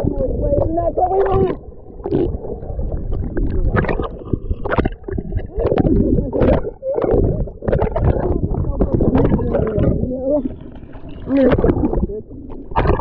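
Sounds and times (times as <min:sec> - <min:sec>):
surf churning and splashing: 0:00.0 - 0:13.0.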